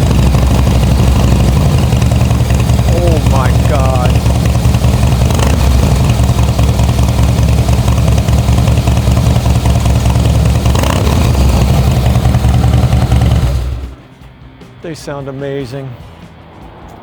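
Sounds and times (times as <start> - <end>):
motorcycle engine rumbling: 0.0 - 14.8.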